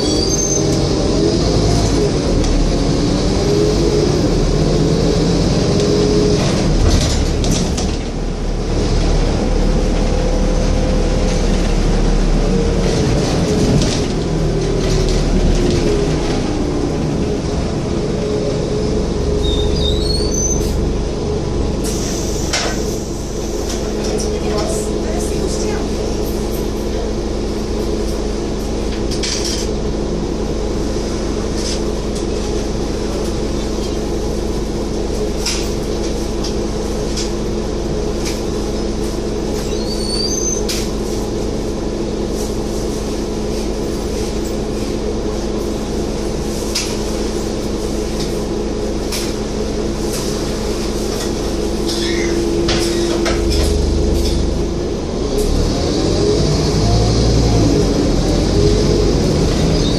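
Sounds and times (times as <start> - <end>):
bus body rattles and clicks: 0.0 - 56.2
bus engine running: 0.0 - 59.9.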